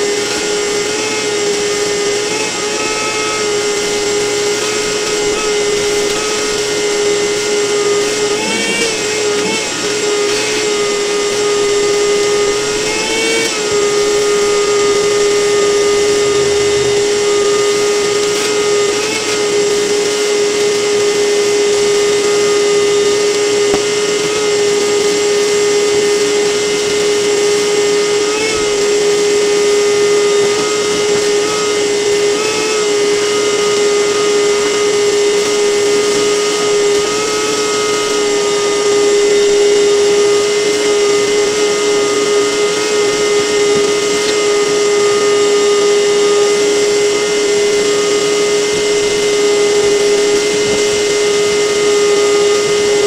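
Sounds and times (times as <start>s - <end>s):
small electric motor running: 0.0s - 53.0s.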